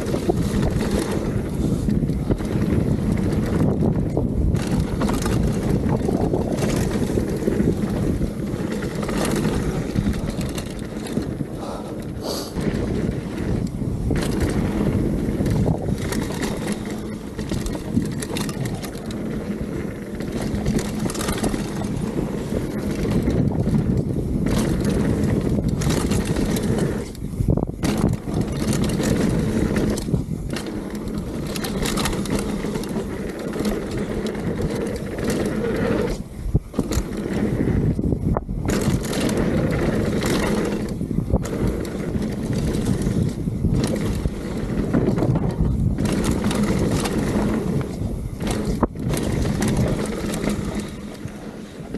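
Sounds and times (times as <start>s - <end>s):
bike rattling over bumps: 0.0s - 51.9s
bike tyres crunching on gravel: 0.0s - 51.9s
wind on microphone: 0.0s - 51.9s.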